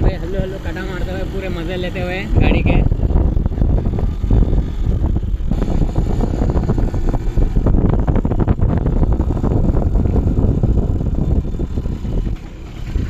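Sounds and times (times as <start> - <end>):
moped engine running: 0.0 - 13.0
wind buffeting microphone: 0.0 - 13.0.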